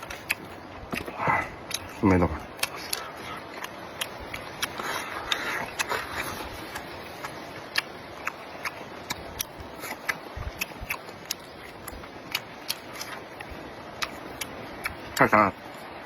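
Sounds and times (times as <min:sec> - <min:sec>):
chewing with wet smacks: 0:00.0 - 0:16.0.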